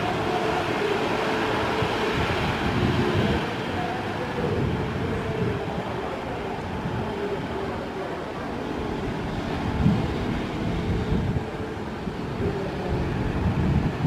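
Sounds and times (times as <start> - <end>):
aircraft engines droning: 0.0 - 14.0.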